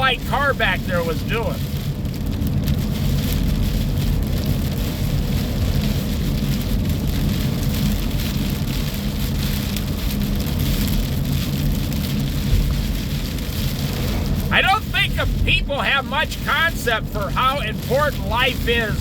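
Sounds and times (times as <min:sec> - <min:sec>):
car rumbling on road: 0:00.0 - 0:19.0
rain hitting a car: 0:00.0 - 0:19.0.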